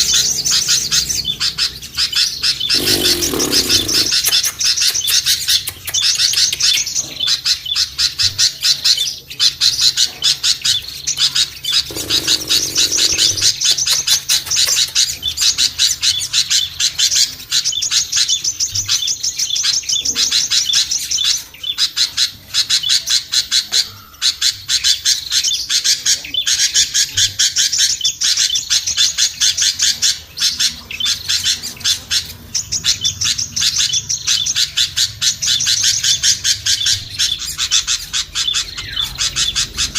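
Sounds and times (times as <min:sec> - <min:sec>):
songbirds chattering: 0:00.0 - 0:39.9.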